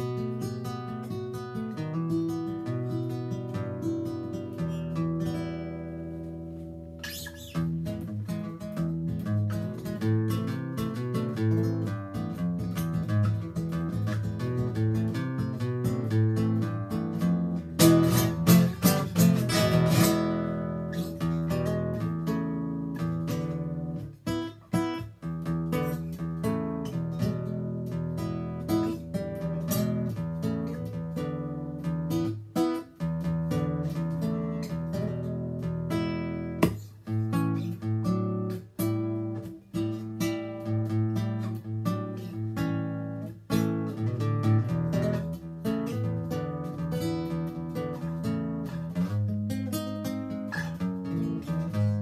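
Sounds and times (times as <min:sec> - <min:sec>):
fingerpicked acoustic guitar: 0:00.0 - 0:52.0.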